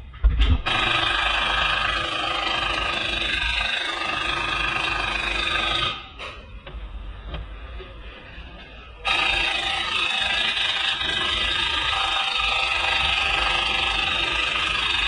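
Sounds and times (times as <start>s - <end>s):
steady mechanical machine noise: 0.0s - 15.0s.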